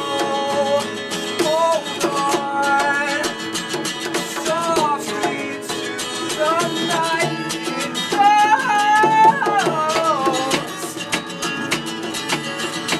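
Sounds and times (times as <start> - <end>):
acoustic guitars strummed: 0.0 - 12.9.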